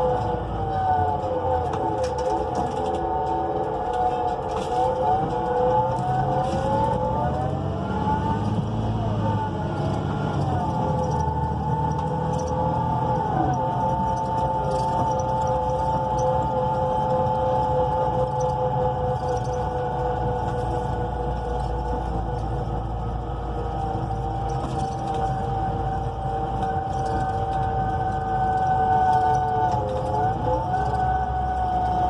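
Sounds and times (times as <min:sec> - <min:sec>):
bus transmission whine: 0:00.0 - 0:32.0
low engine rumble: 0:00.0 - 0:32.0.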